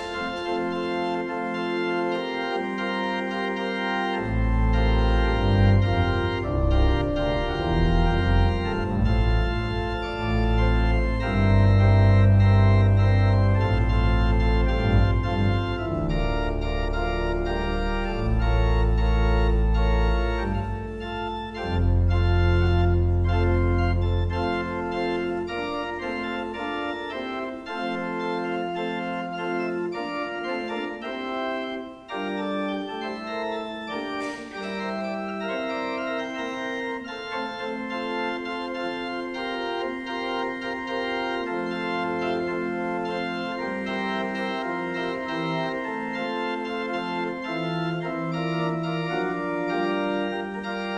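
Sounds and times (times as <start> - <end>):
deep organ pedal bass notes: 0.0 - 50.9
organ playing held chords: 0.0 - 50.9.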